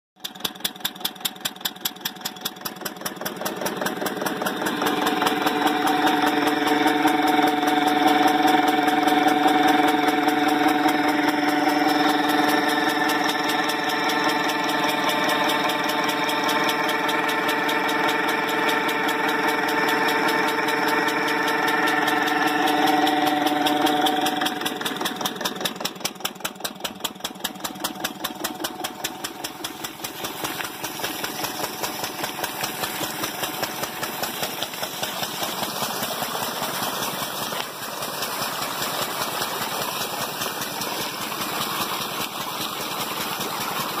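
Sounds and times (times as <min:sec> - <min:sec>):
engine running: 0:00.2 - 0:44.0.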